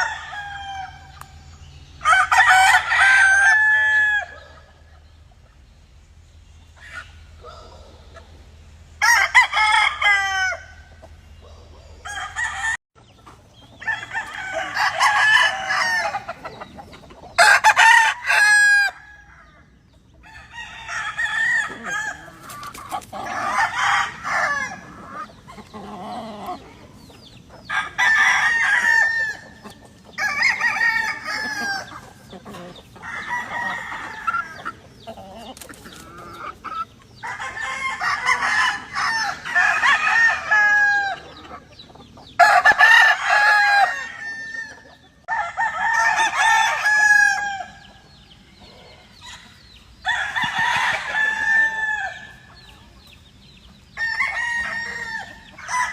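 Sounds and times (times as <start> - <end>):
chickens clucking: 0.0 - 55.9
roosters crowing: 0.0 - 55.9.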